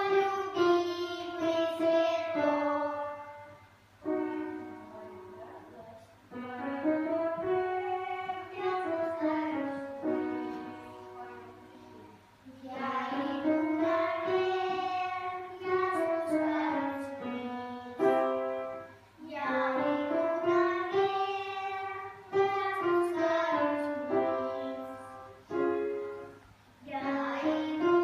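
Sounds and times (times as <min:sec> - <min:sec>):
children singing together: 0:00.0 - 0:04.8, 0:06.4 - 0:25.9, 0:26.9 - 0:28.0.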